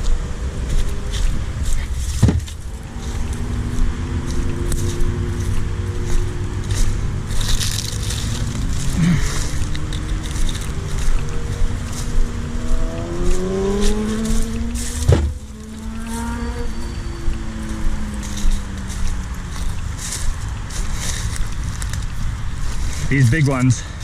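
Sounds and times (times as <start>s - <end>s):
highway traffic hum: 0.0s - 24.0s
vehicle engine rising in pitch: 2.6s - 22.0s.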